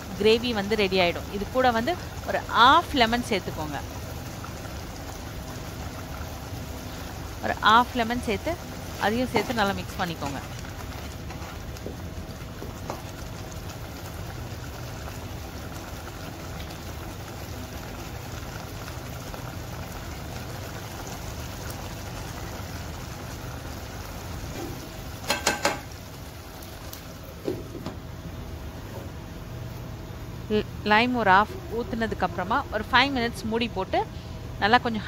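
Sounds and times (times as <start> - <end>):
gravy bubbling in a pot: 0.0 - 33.4.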